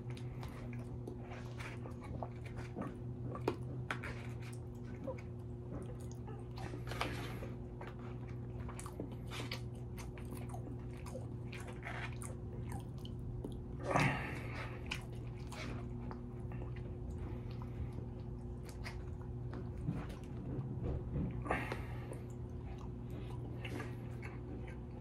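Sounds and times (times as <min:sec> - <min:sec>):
person chewing: 0:00.0 - 0:25.0
steady low hum: 0:00.0 - 0:25.0.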